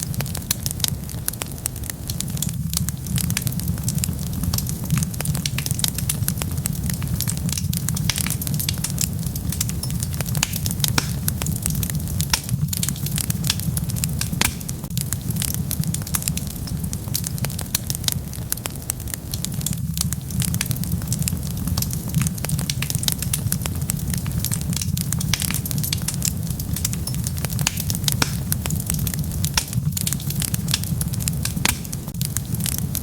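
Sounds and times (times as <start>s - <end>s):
low rumble of flame: 0.0s - 33.0s
wood fire crackling: 0.0s - 33.0s.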